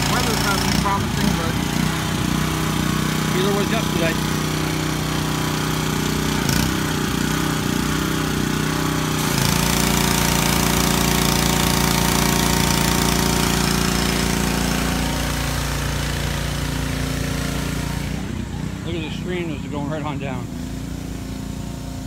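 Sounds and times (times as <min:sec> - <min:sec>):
small petrol engine running: 0:00.0 - 0:22.0
water spray hissing on ground: 0:00.0 - 0:22.0.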